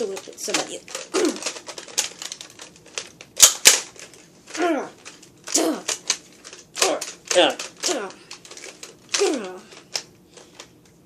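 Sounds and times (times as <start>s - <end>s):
toy blaster plastic clacks: 0.0s - 4.2s, 5.0s - 10.7s.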